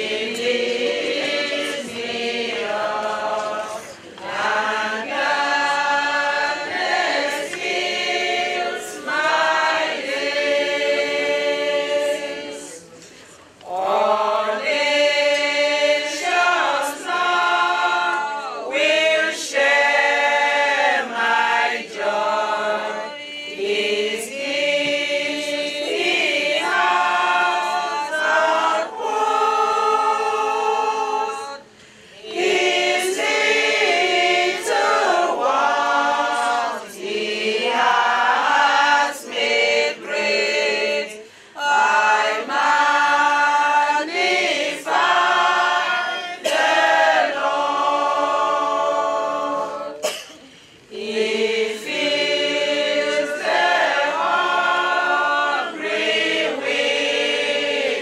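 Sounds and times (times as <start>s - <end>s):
choir singing: 0.0s - 13.0s, 13.6s - 58.0s.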